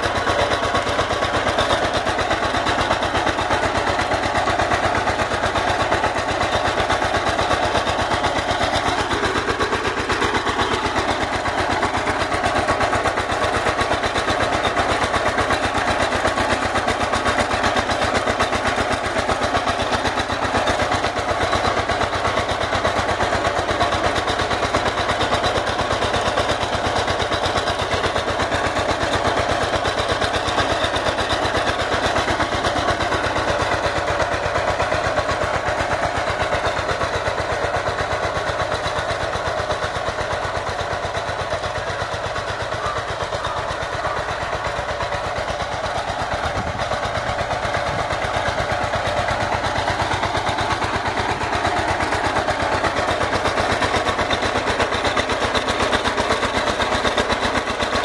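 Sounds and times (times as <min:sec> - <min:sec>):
power tiller engine running: 0:00.0 - 0:58.0.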